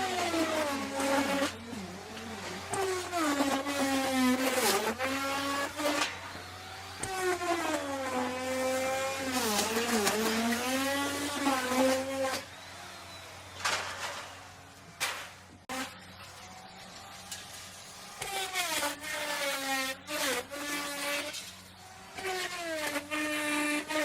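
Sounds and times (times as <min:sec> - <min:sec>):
wood router cutting wood: 0:00.0 - 0:24.0.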